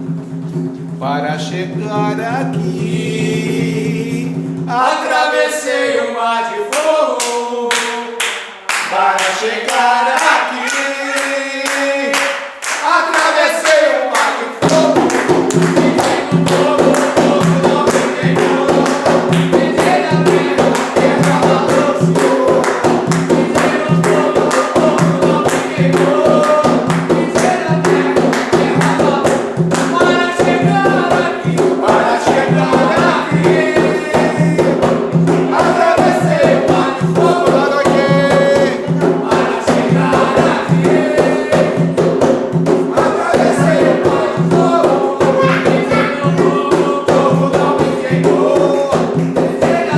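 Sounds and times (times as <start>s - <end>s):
fast hand percussion: 0.0s - 5.2s, 6.8s - 49.9s
group chanting: 2.7s - 49.9s.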